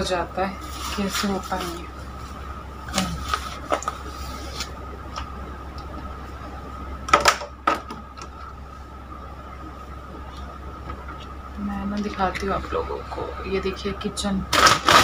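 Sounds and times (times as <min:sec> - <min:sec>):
faint high-pitched hum: 0:00.0 - 0:15.0
low hum: 0:00.0 - 0:15.0.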